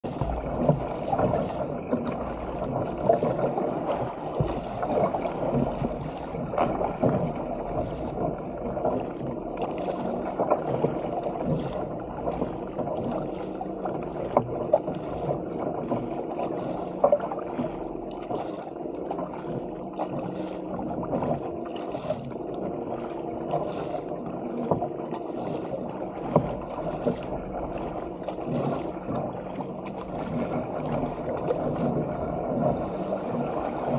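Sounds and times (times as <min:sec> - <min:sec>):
paddle splashes: 0:00.0 - 0:33.9
water rushing along kayak hull: 0:00.0 - 0:33.9.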